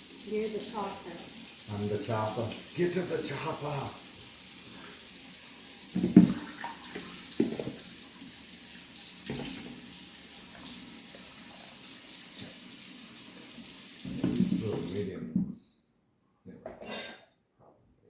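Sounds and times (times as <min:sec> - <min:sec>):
tap running water into sink: 0:00.0 - 0:15.1.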